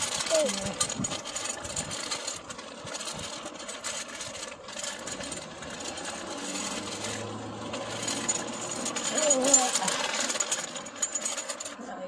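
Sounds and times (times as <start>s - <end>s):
bike wheels rattling on concrete: 0.0s - 12.0s.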